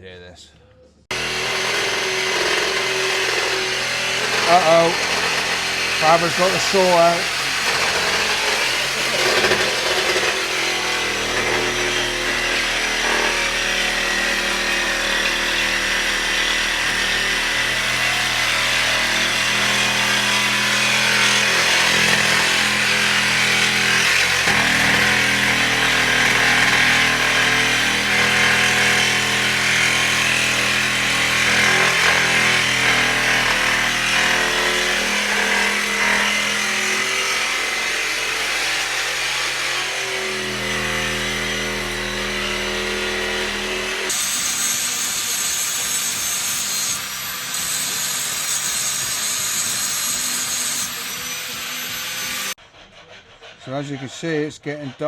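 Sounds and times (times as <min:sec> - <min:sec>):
power saw cutting steel tube: 0:01.1 - 0:55.0.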